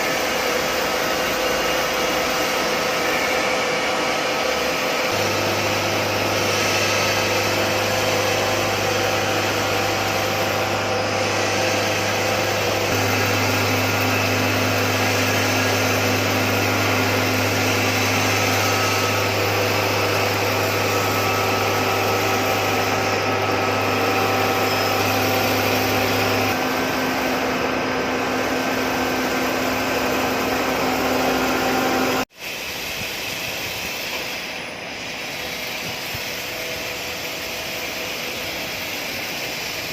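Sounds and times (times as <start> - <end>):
metalworking machine whirring: 0.0 - 39.9.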